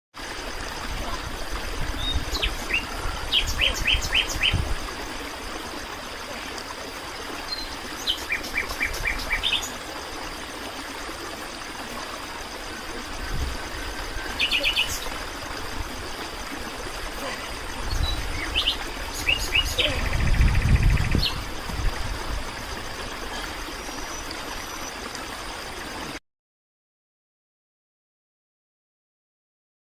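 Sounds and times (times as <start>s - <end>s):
steady background hiss: 0.2s - 26.2s.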